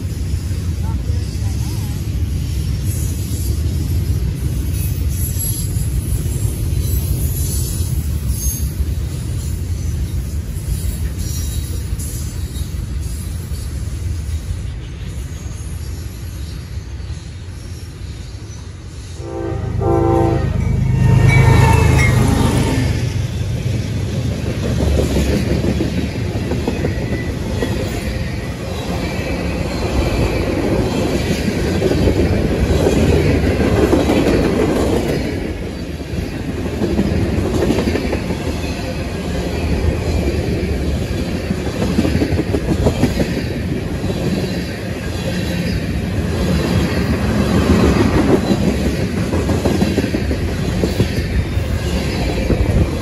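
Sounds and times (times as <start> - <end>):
steel wheels rumbling on rail: 0.0 - 53.0.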